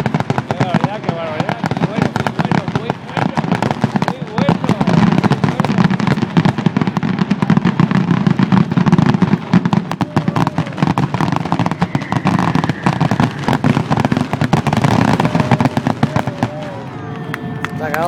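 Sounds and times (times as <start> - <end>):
fireworks barrage: 0.0 - 18.0.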